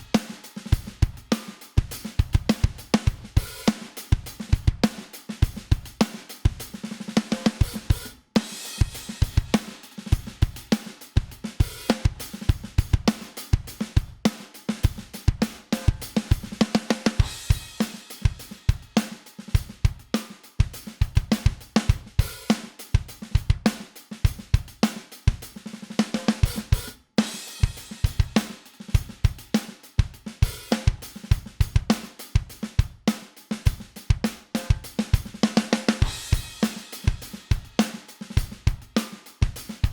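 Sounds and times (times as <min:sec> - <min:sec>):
drum kit groove: 0:00.0 - 0:39.9.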